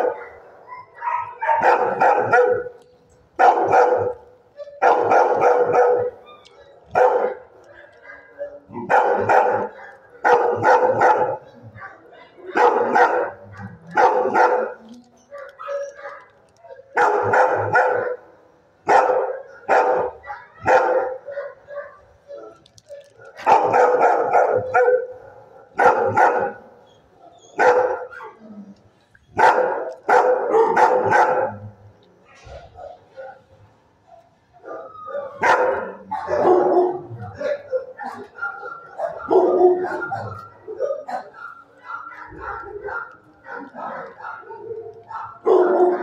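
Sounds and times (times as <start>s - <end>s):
dog barking: 0.0s - 2.8s, 3.4s - 26.7s, 27.6s - 28.4s, 29.4s - 31.8s, 32.6s - 33.5s, 34.1s - 46.0s.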